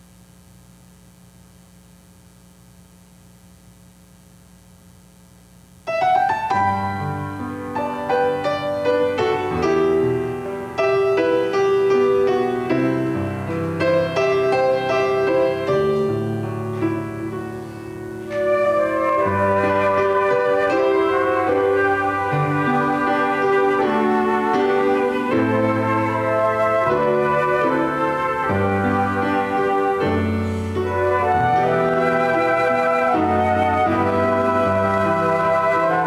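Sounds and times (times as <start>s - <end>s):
faint steady hum: 0.0s - 36.0s
keyboard instrumental music: 5.9s - 36.0s.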